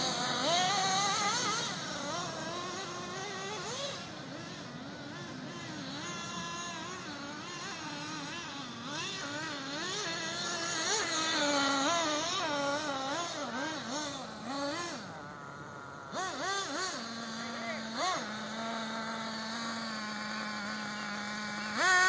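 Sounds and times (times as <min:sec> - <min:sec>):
toy car motor whining: 0:00.0 - 0:22.0.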